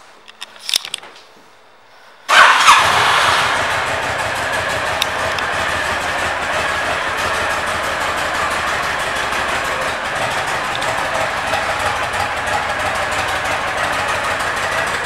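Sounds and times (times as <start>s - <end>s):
motorcycle engine starting and idling: 2.3s - 15.0s.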